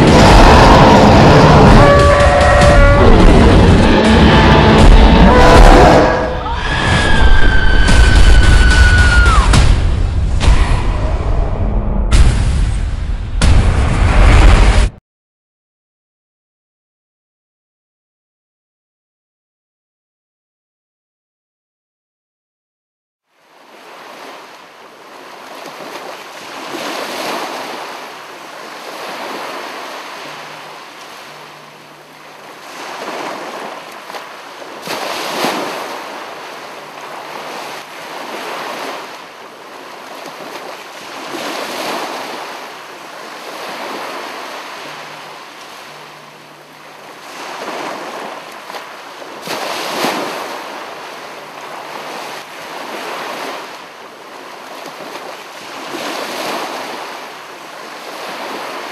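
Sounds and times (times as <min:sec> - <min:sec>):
ocean waves washing in: 0:00.0 - 0:15.0, 0:23.3 - 0:58.9.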